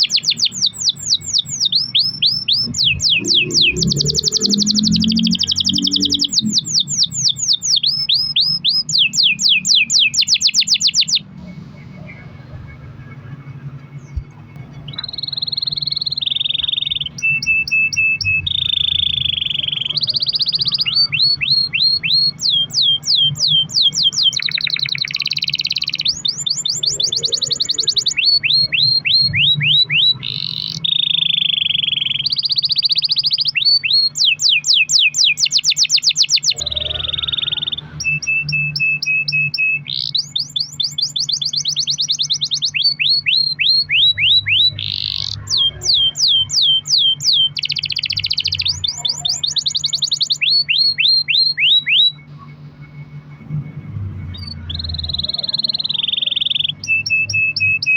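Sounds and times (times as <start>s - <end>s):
canary singing: 0.0s - 57.9s
low steady hum: 0.0s - 57.9s.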